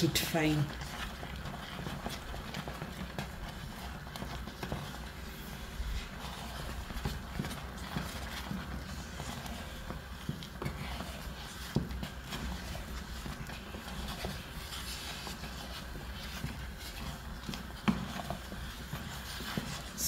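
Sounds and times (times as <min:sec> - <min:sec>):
stick knocking and scraping pot: 0:00.0 - 0:20.0
wooden stick stirring dough: 0:00.0 - 0:20.0.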